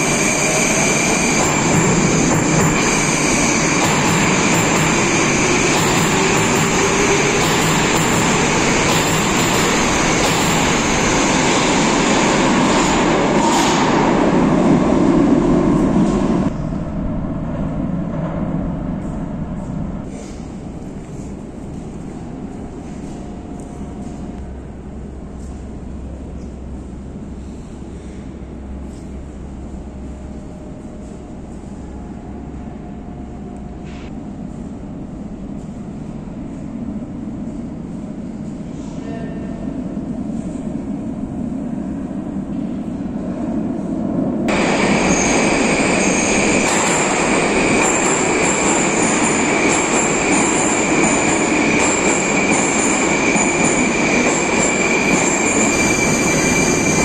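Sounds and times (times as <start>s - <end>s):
metro train rumbling: 0.0s - 57.0s.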